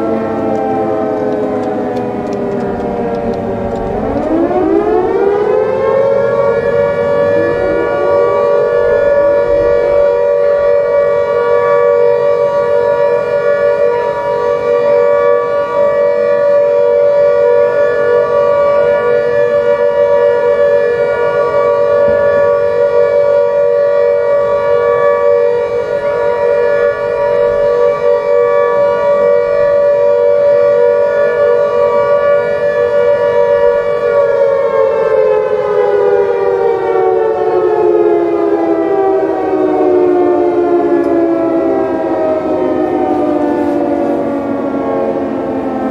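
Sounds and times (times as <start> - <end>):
emergency alert siren: 0.0 - 45.9.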